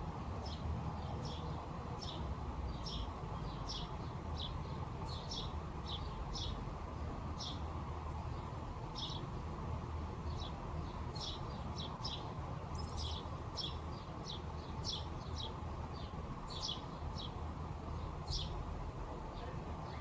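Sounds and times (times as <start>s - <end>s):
low background noise: 0.0s - 20.0s
songbirds chirping: 0.0s - 20.0s.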